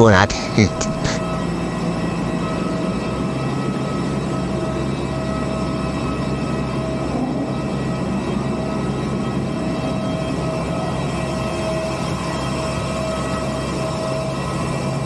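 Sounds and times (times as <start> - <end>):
airliner engine drone: 0.0 - 15.0
high whining tones: 0.0 - 15.0
low hum: 0.0 - 15.0.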